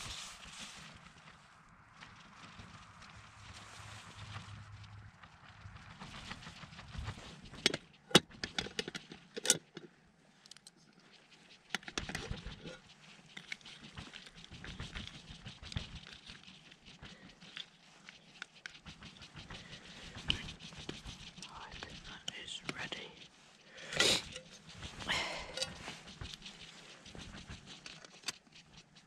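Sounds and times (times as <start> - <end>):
soft rustling: 0.0 - 29.0.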